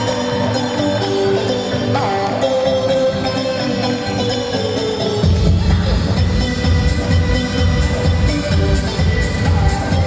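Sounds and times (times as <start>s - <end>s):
dance music with pulsing bass: 0.0s - 10.0s.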